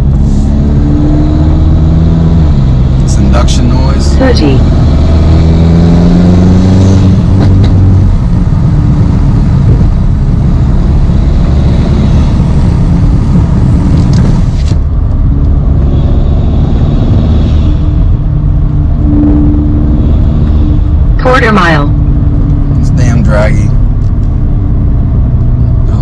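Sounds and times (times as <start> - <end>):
car engine cruising: 0.0 - 26.0
intake induction noise: 1.4 - 26.0.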